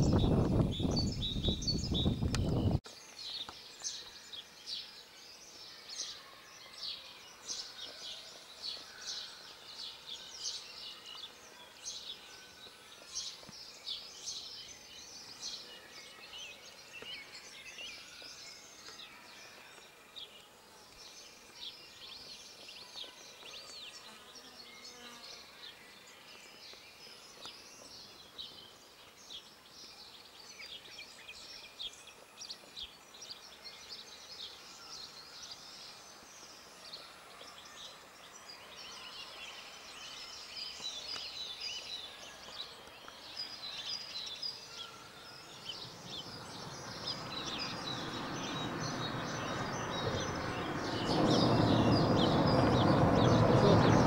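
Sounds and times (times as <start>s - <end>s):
faint outdoor hiss: 0.0s - 54.0s
small songbirds chirping: 0.0s - 54.0s.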